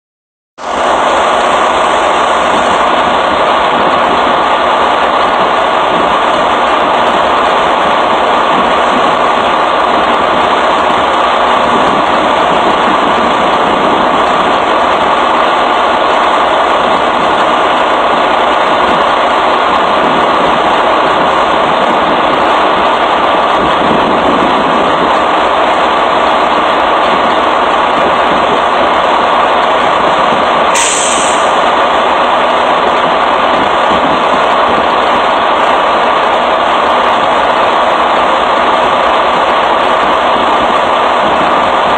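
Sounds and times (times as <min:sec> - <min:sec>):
truck engine idling: 0:00.6 - 0:41.9.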